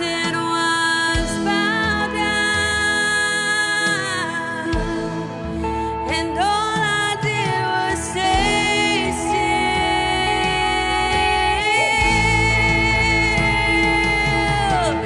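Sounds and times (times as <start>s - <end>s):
woman singing: 0.0s - 15.0s
worship band playing: 0.0s - 15.0s.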